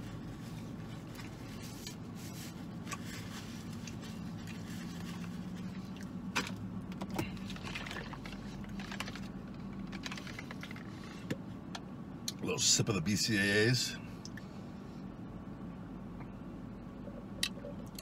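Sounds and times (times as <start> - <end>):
low hum of car cabin: 0.0 - 18.0.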